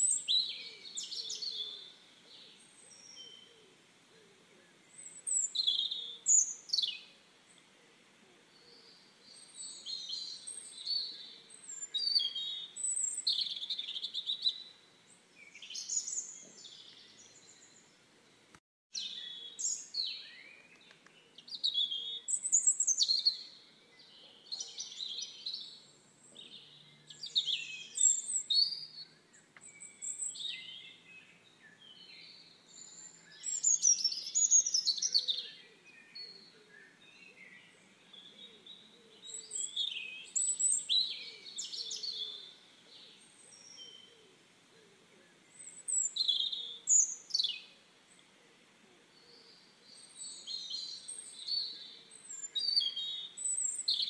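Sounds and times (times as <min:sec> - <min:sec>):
birds chirping and singing: 0:00.0 - 0:03.8, 0:04.7 - 0:07.8, 0:08.4 - 0:18.4, 0:19.0 - 0:48.2, 0:49.0 - 0:54.0.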